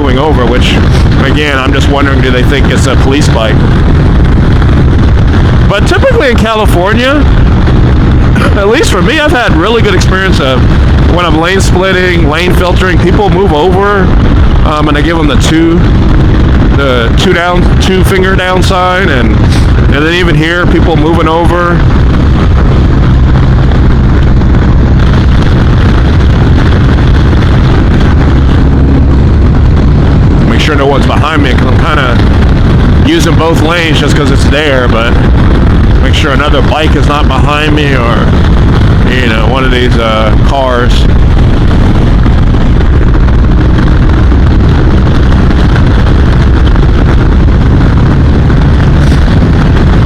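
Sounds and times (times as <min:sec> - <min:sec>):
motorcycle engine cruising: 0:00.0 - 0:50.0
wind noise on microphone: 0:00.0 - 0:50.0.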